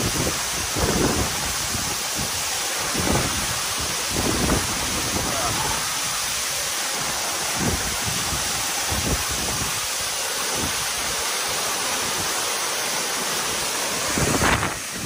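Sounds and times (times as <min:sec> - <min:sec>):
waterfall rushing onto rocks: 0:00.0 - 0:15.0.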